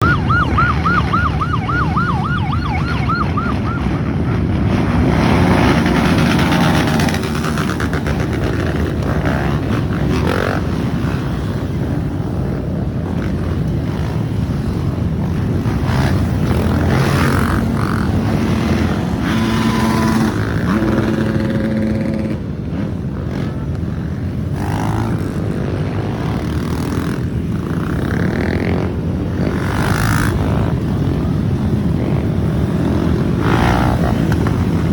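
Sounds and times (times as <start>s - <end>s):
motorcycles revving: 0.0s - 34.9s.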